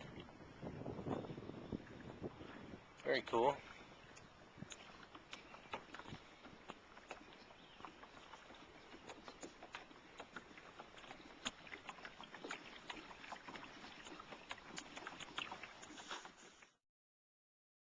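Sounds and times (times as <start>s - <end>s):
water lapping against hull: 0.0s - 16.8s
water ticks and drips: 1.1s - 16.8s.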